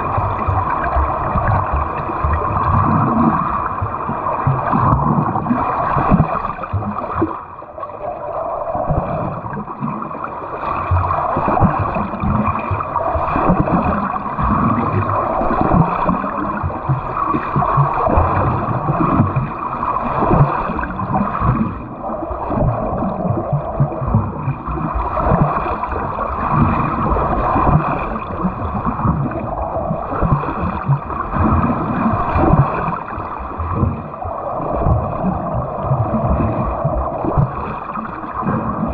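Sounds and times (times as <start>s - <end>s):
pool water splashing: 0.0s - 38.9s.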